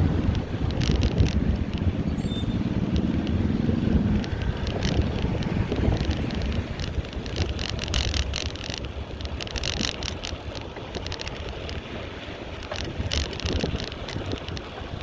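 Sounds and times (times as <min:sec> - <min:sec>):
bicycle clicks and rattles: 0:00.0 - 0:15.0
wind rumbling on microphone: 0:00.0 - 0:15.0.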